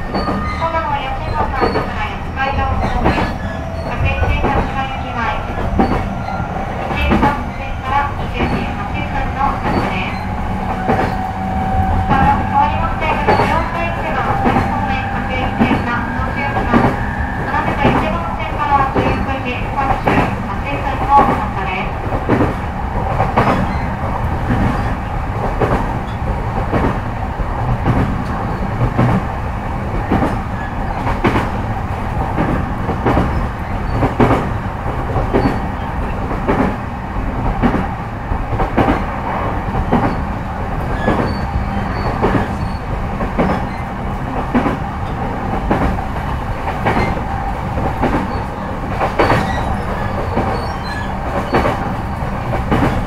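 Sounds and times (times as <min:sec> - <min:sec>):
train running gear hum: 0:00.0 - 0:53.0.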